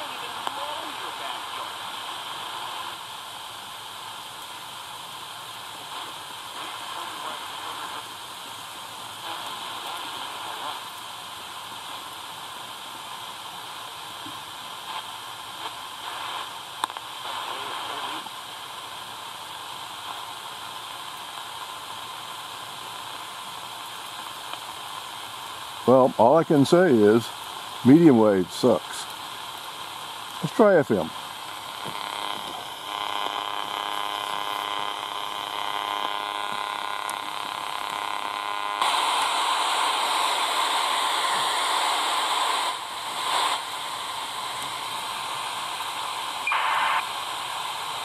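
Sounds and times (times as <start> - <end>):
radio static hissing: 0.0 - 48.0.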